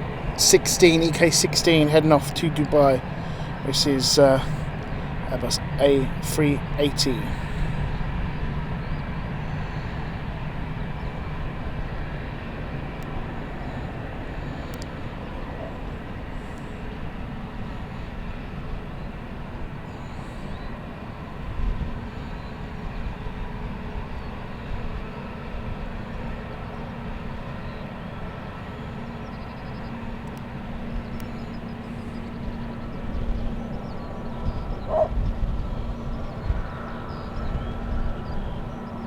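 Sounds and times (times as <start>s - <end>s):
jet engines rumbling on takeoff: 0.0s - 39.0s.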